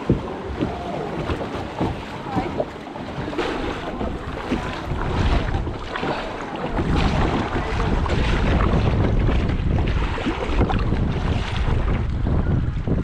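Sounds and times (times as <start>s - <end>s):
water slapping kayak hull: 0.0s - 13.0s
wind buffeting microphone: 0.0s - 13.0s.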